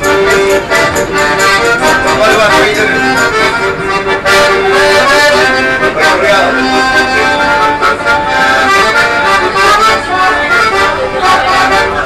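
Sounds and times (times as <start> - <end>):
accordion playing melody: 0.0 - 12.0.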